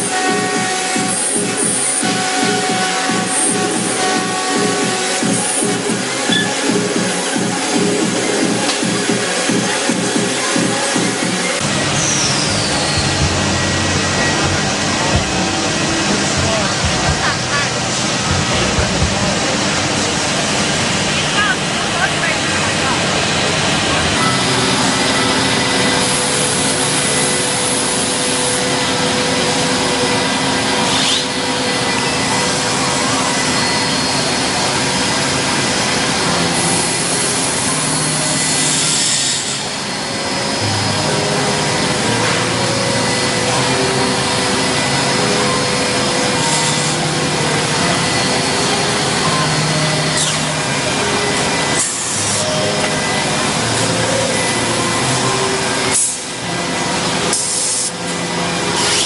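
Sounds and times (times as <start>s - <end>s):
motor whine shifting pitch: 0.0s - 59.0s
wood router cutting wood: 0.0s - 59.0s.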